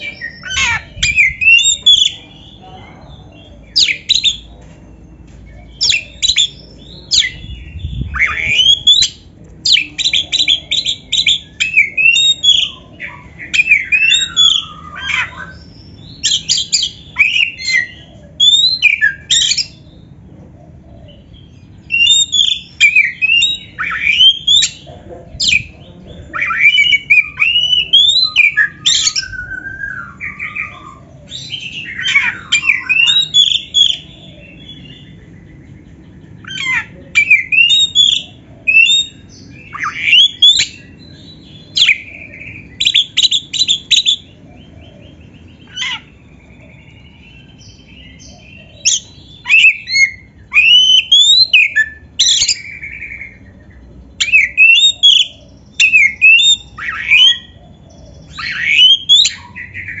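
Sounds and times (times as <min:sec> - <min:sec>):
bird whistling and chattering: 0:00.0 - 0:02.3, 0:05.7 - 0:19.8, 0:20.7 - 0:35.1, 0:36.4 - 0:44.4, 0:45.2 - 0:53.5, 0:54.2 - 1:00.0.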